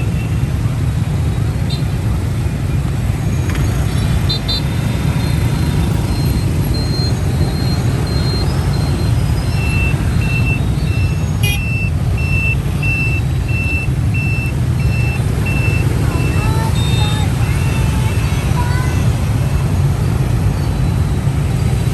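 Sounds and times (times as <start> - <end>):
traffic rumble: 0.0 - 21.9
electronic vehicle beeper: 2.8 - 21.9.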